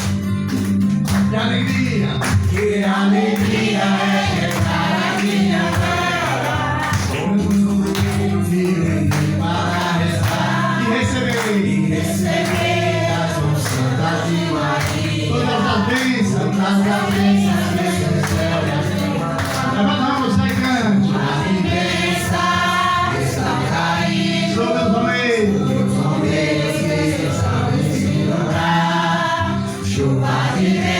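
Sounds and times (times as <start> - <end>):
instrumental accompaniment: 0.0 - 30.9
group singing religious song: 1.2 - 30.9.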